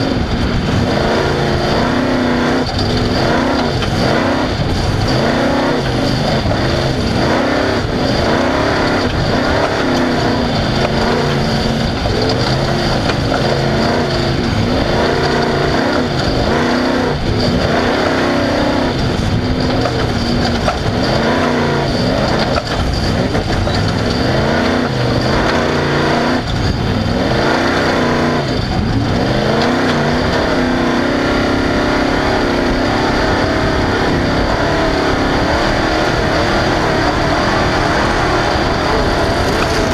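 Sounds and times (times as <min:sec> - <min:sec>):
race vehicle engine revving: 0:00.0 - 0:39.9
rough terrain noise: 0:00.0 - 0:39.9
wind noise: 0:00.0 - 0:39.9.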